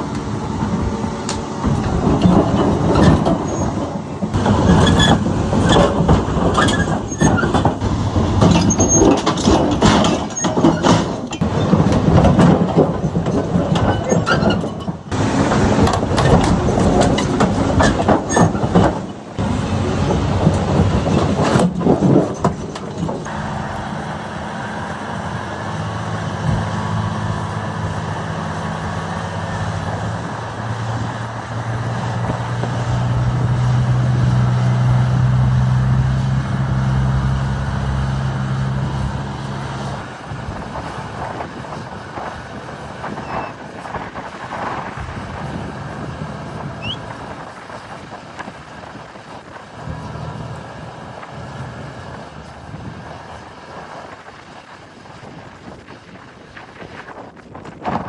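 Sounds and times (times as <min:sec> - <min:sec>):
diesel engine drone: 0:00.0 - 0:58.0.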